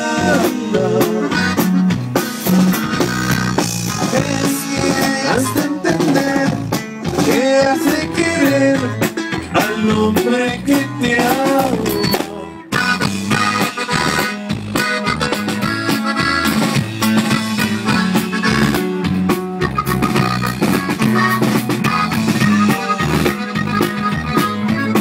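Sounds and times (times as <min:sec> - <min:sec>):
accordion melody: 0:00.0 - 0:25.0
live band playing: 0:00.0 - 0:25.0.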